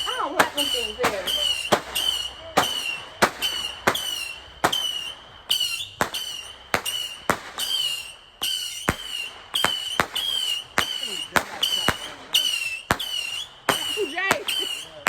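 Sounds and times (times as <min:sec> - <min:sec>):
firework cracks: 0:00.0 - 0:15.0
whistling fireworks: 0:00.0 - 0:15.0.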